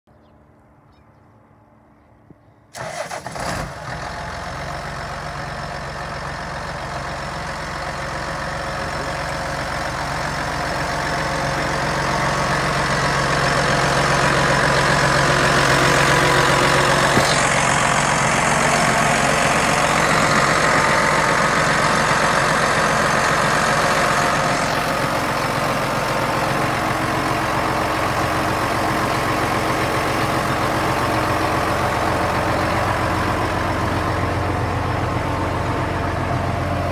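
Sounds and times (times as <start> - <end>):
diesel tractor engine idling: 0.1 - 36.9.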